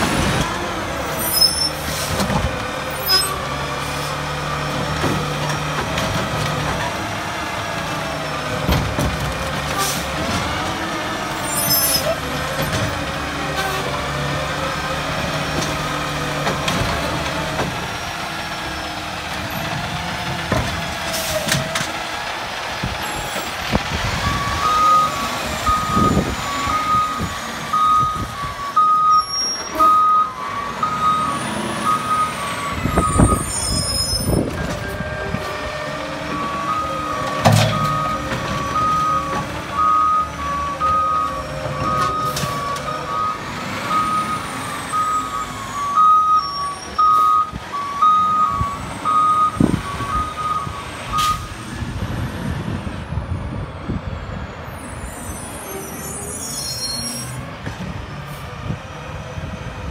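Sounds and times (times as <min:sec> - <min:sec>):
hydraulics whining: 0:00.0 - 0:59.9.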